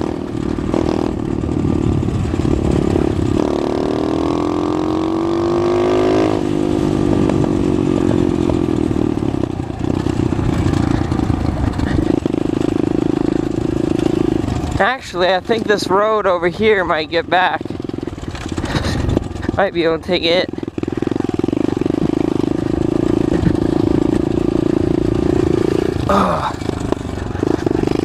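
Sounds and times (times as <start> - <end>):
pit bike engine running: 0.0 - 28.0.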